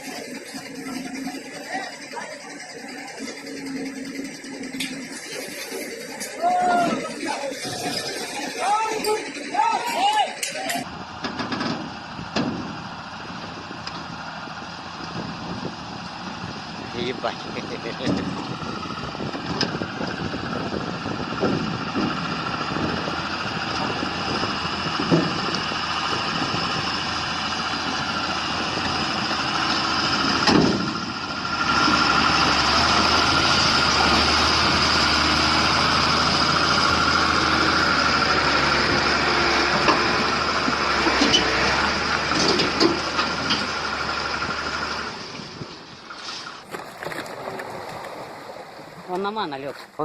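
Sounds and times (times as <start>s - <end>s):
heavy vehicle engine whining: 0.0s - 49.7s.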